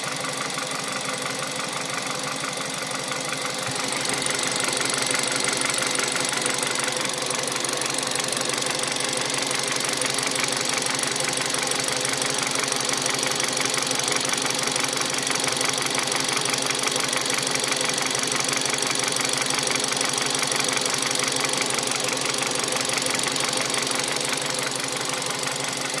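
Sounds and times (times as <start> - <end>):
car engine humming: 0.0 - 17.4, 20.4 - 26.0
rapid engine knocking: 0.0 - 26.0.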